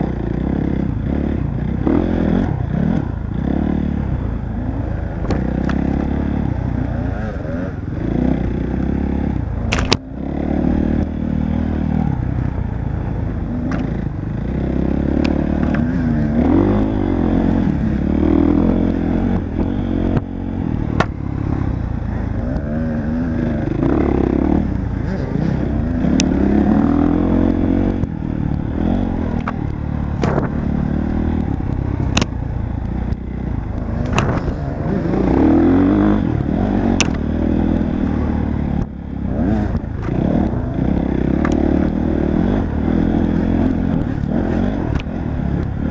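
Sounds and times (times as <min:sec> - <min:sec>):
off-road motorcycle engine revving: 0:00.0 - 0:45.9.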